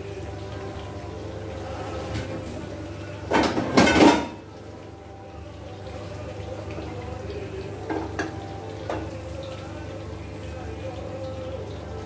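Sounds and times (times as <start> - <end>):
low kitchen background: 0.0 - 12.0.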